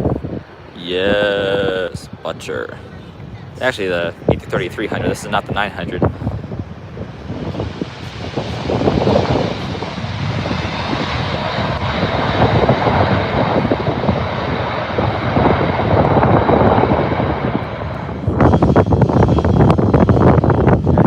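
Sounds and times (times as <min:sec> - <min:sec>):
jet engine whine: 0:00.0 - 0:21.0
wind gusting on microphone: 0:00.0 - 0:21.0.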